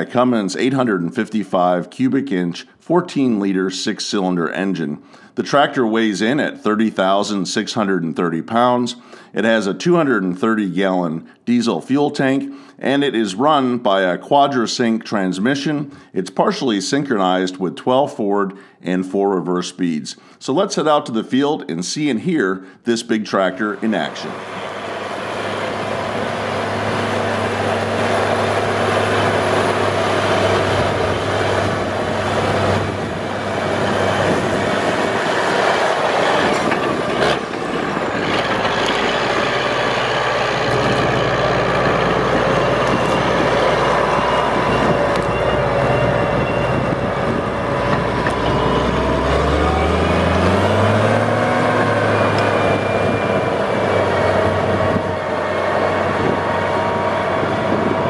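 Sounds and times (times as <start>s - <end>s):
tractor diesel engine under load: 0.0s - 14.5s, 23.4s - 58.0s.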